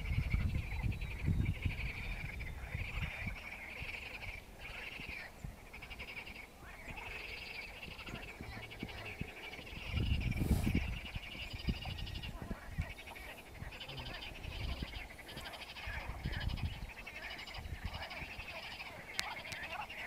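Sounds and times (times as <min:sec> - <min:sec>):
frogs trilling: 0:00.0 - 0:20.0
wind rumble on microphone: 0:00.0 - 0:20.0.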